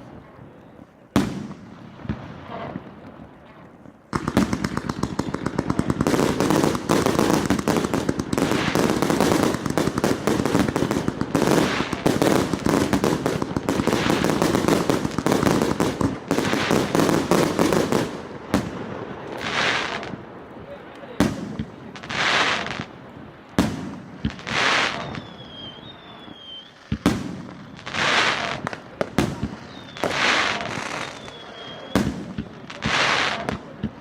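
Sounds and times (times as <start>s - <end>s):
firework battery shots and bursts: 1.2s - 3.0s, 4.1s - 20.2s, 23.6s - 34.0s.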